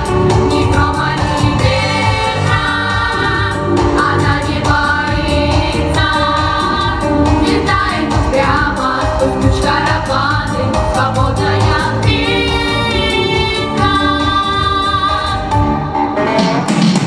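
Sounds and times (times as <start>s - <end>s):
girls singing into microphones: 0.0s - 15.6s
amplified music with steady beat: 0.0s - 17.0s.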